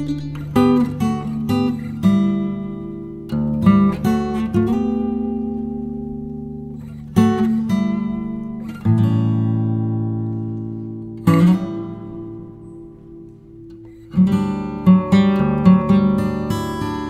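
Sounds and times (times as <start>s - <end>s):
strummed acoustic guitar chords: 0.0s - 17.0s.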